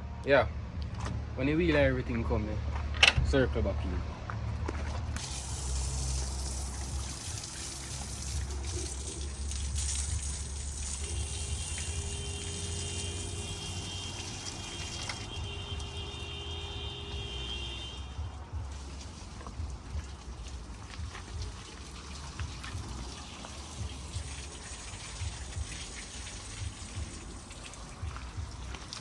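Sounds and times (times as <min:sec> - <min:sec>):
water running and splashing: 0:05.2 - 0:29.0.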